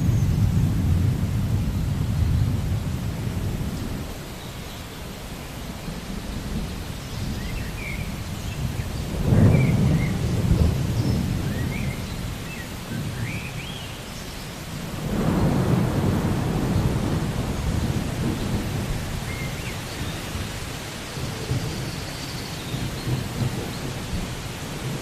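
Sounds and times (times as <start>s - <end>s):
thunder rumbling: 0.0s - 4.3s, 5.9s - 13.4s, 14.8s - 25.0s
steady rain: 0.0s - 25.0s.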